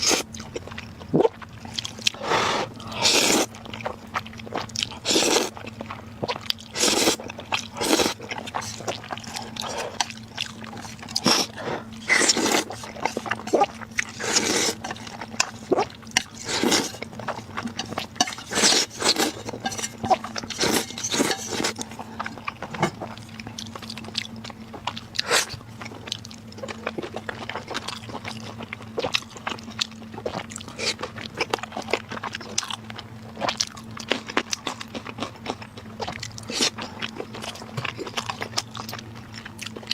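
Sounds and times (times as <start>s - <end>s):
chewing and crunching: 0.0s - 39.9s
steady low hum: 0.0s - 39.9s.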